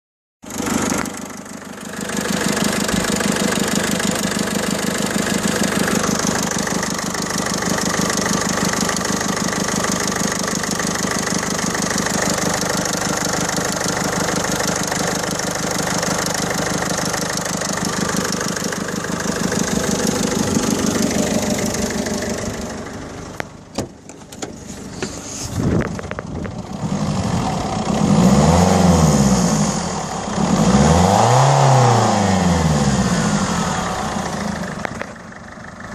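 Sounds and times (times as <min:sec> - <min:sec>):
diesel engine running: 0:00.4 - 0:35.9.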